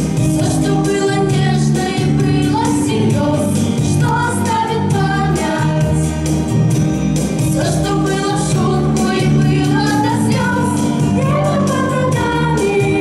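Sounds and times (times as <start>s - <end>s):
instrumental music with beat: 0.0s - 13.0s
young women singing pop song: 0.2s - 6.2s, 7.5s - 13.0s.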